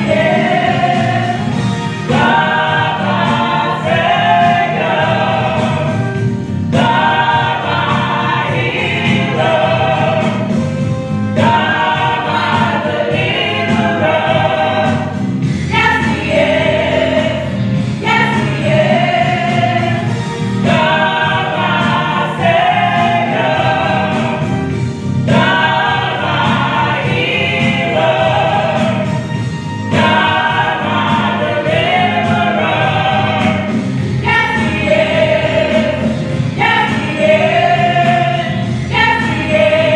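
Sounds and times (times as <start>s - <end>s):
gospel choir singing: 0.0s - 39.9s
instrumental accompaniment: 0.0s - 39.9s.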